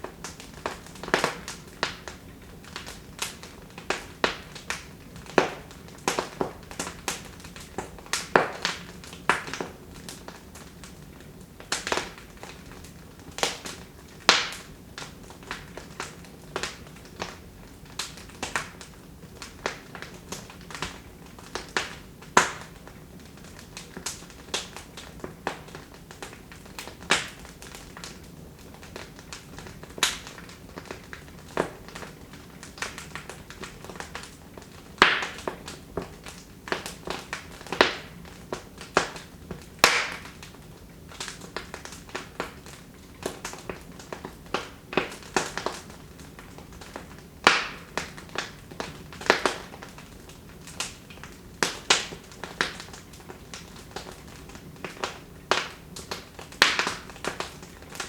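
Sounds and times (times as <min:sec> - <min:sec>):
low steady hiss: 0:00.0 - 0:58.0
wood fire crackling and popping: 0:00.0 - 0:58.0.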